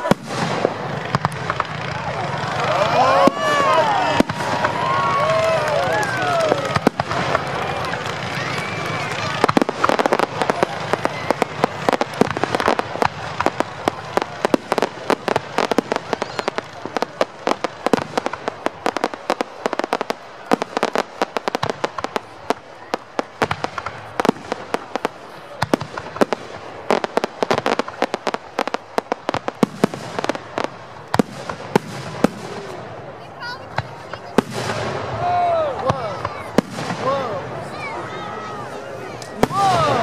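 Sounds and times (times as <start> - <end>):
fireworks bangs: 0.0 - 40.0
fireworks crackling: 0.0 - 40.0.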